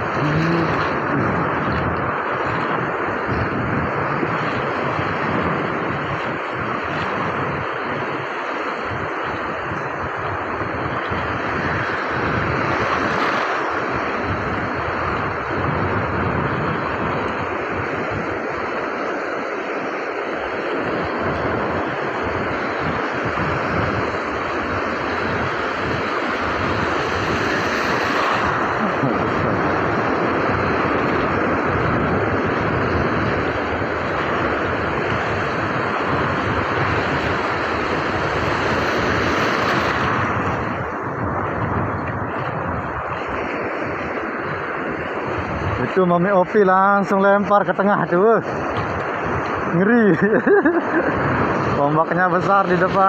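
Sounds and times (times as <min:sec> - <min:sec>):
surf breaking and washing: 0:00.0 - 0:53.0
wind buffeting microphone: 0:00.0 - 0:53.0.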